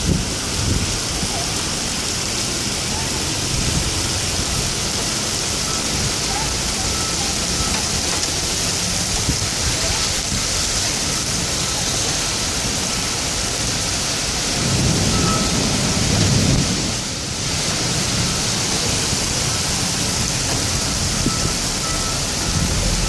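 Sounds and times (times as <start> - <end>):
heavy rain pouring: 0.0 - 23.0
thunder rumbling: 0.0 - 23.0.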